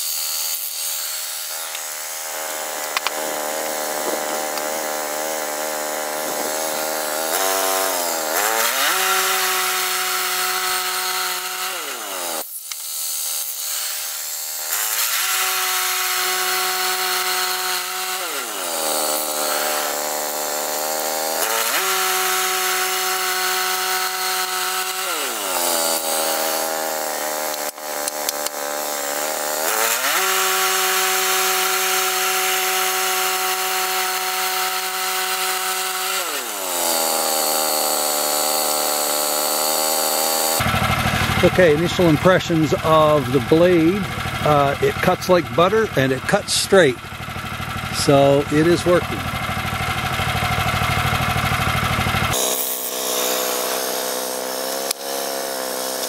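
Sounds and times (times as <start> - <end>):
band sawmill sawing through log: 0.0 - 56.0.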